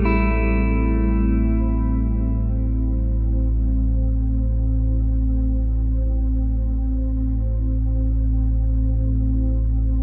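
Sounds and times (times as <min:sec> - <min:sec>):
ambient music with held chords: 0:00.0 - 0:10.0
deep steady bass: 0:00.0 - 0:10.0.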